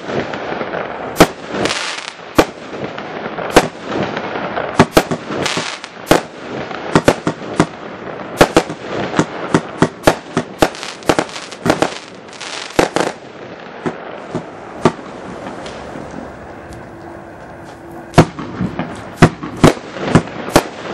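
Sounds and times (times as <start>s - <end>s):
firework battery bangs: 0.0s - 17.0s, 17.8s - 20.9s
firework crackle: 0.0s - 20.9s.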